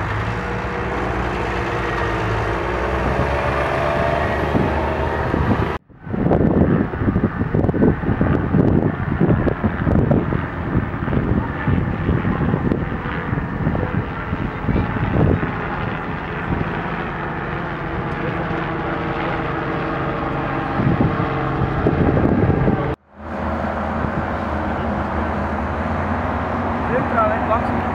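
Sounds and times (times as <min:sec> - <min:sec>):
tractor diesel engine droning: 0:00.0 - 0:05.8, 0:10.4 - 0:27.9
low rumbling gusts: 0:00.0 - 0:27.9.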